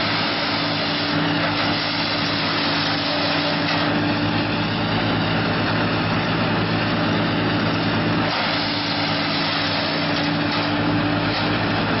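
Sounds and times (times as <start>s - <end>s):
wood chipper engine hum: 0.0s - 12.0s.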